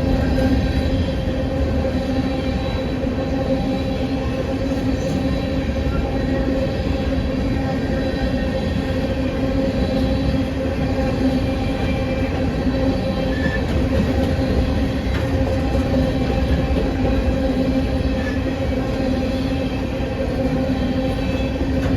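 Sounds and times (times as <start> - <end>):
diesel locomotive engine drone: 0.0 - 21.9
train wheels rumbling on rail: 0.0 - 21.9.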